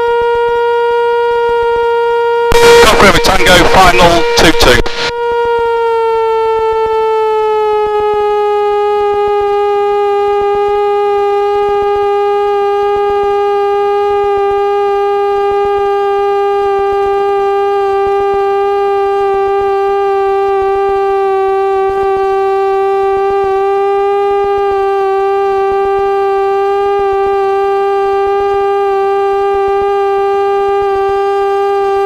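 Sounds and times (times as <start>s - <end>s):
airplane engine drone: 0.0s - 32.0s.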